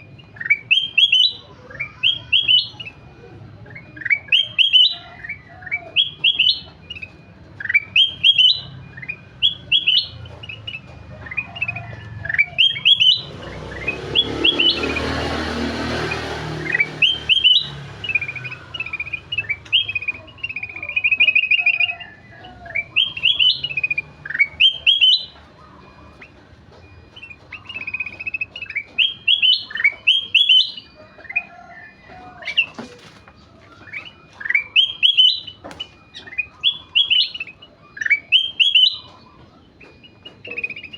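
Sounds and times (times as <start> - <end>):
bird singing chirps and whistles: 0.0 - 3.0, 3.6 - 32.8, 33.6 - 40.9.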